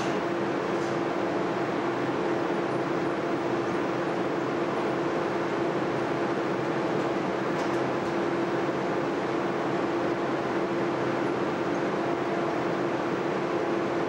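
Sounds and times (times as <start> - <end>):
cooling blowers rushing: 0.0 - 14.0
mid-pitched electrical hum: 0.0 - 14.0.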